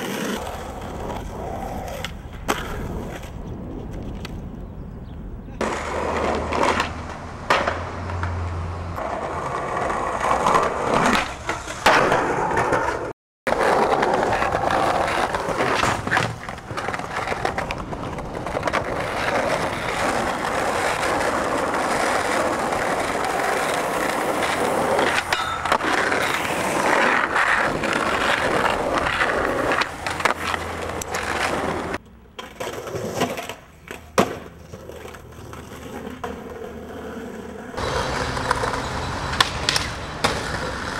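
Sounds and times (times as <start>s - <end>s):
skateboard wheels rolling on concrete: 0.0s - 40.9s
skateboard clacks: 5.6s - 36.8s, 37.8s - 40.9s.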